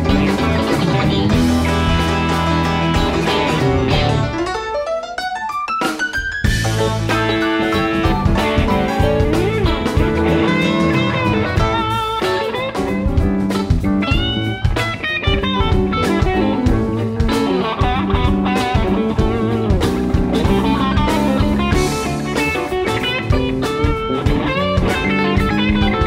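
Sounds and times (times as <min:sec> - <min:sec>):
drum kit: 0:00.0 - 0:26.0
electric guitar lead: 0:00.0 - 0:26.0
keyboards: 0:00.0 - 0:26.0.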